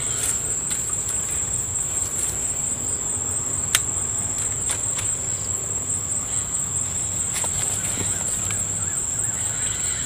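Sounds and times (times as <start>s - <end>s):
insects chorus: 0.0s - 10.0s.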